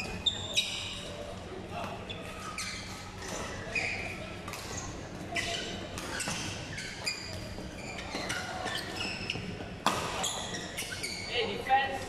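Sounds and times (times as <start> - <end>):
shoes squeaking on court floor: 0.0 - 12.0.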